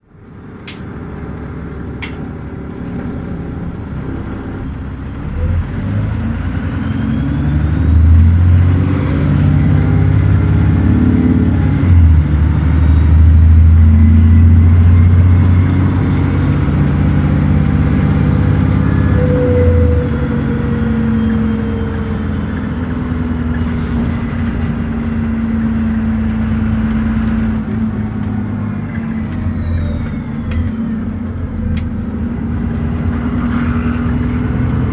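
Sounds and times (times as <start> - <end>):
bus diesel engine accelerating: 0.0 - 34.9.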